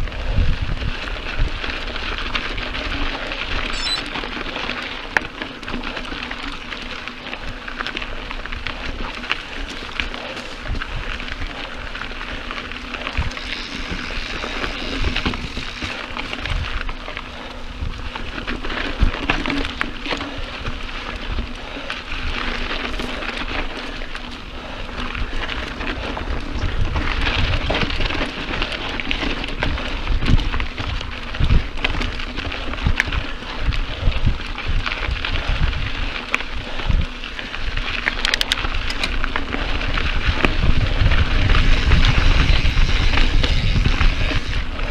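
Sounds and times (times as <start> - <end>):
bike clicks and rattles: 0.0 - 44.9
bike tyres on dirt and gravel: 0.0 - 44.9.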